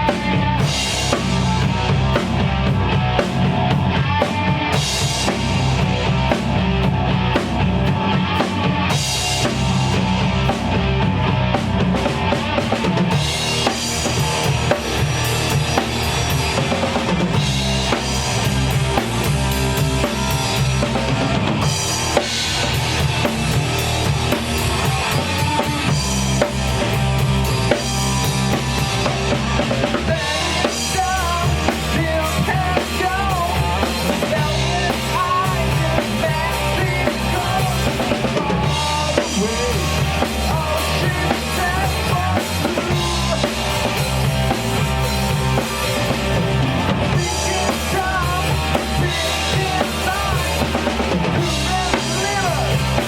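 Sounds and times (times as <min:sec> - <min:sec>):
drum kit beat: 0:00.0 - 0:53.0
rock band playing live: 0:00.0 - 0:53.0.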